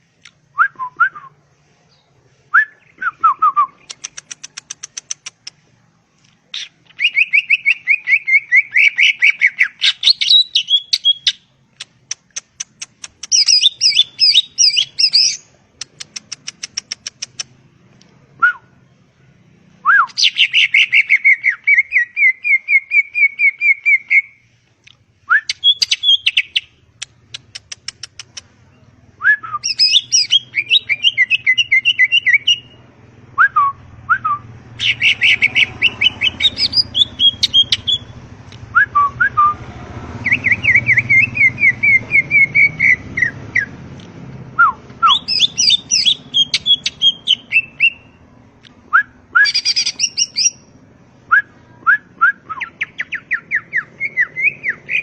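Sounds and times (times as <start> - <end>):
bird singing varied song: 0.2 - 5.5, 6.2 - 39.6, 40.2 - 48.3, 48.9 - 55.0.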